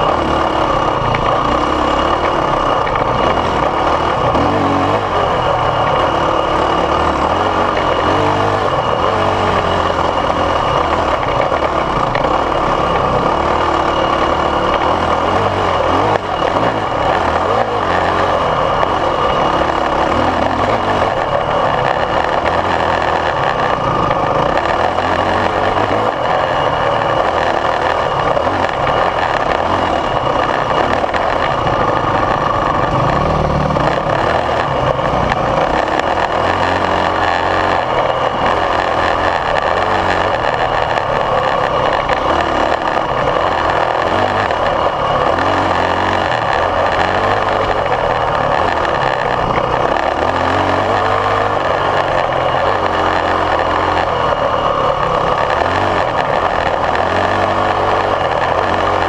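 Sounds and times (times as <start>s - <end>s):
dirt bike engine under load: 0.0s - 59.0s
rushing wind noise: 0.0s - 59.0s.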